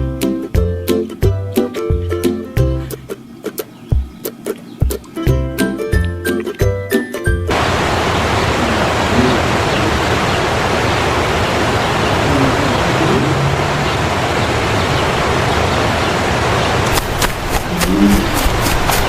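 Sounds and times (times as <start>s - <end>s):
loud steady rushing hiss: 0.0s - 19.0s.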